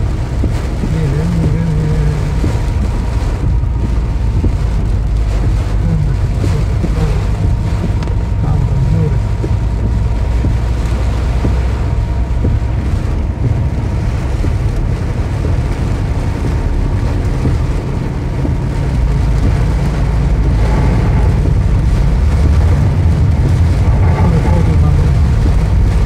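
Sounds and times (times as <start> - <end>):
car interior low rumble: 0.0 - 26.0
rain on windscreen: 0.0 - 26.0
tyres hissing on wet road: 0.0 - 26.0.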